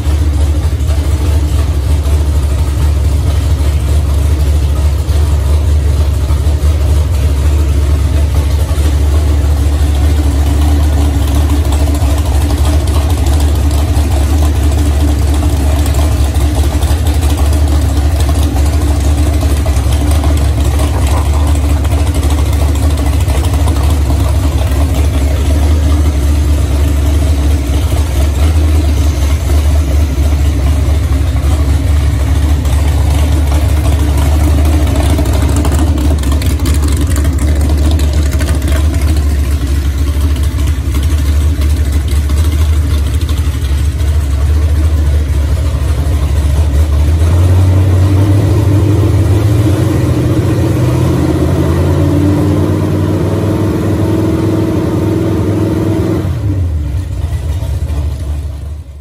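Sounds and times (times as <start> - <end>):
engine running on stand: 0.0 - 59.0.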